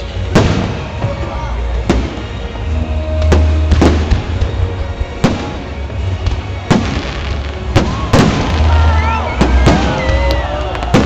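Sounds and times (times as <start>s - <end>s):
fireworks bangs: 0.1s - 11.0s.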